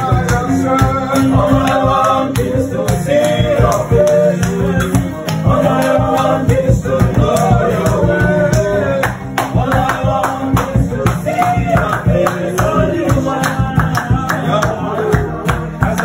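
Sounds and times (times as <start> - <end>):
acoustic guitar: 0.0 - 16.0
percussive beat: 0.0 - 16.0
voices singing gospel music: 0.0 - 16.0.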